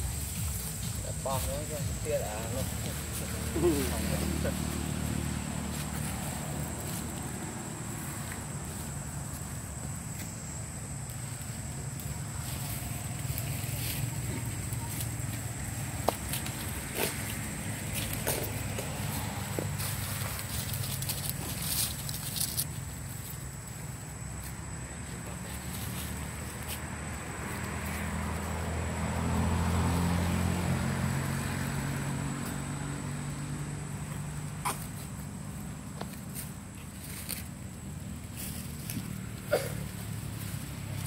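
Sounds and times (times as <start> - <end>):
scuff on dry dirt and leaves: 0.0 - 30.4, 34.0 - 41.0
low engine hum: 0.0 - 41.0.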